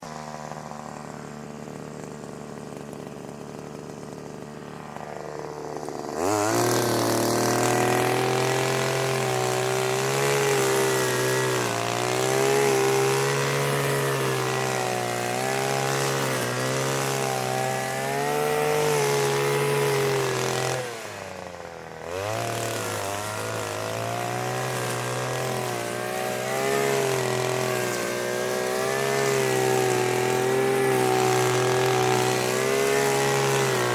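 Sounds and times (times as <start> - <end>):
brushcutter engine revving: 0.0 - 33.9.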